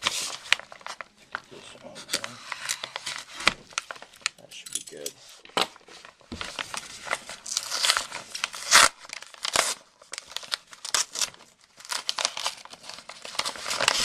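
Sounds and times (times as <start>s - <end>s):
paper packaging crinkling and tearing: 0.0s - 14.0s.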